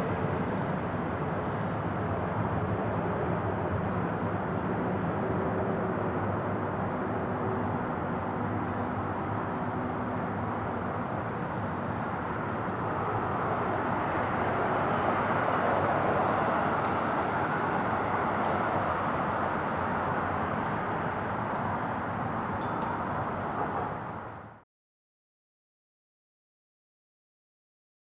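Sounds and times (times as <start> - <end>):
jet engines roaring in flight: 0.0 - 24.6.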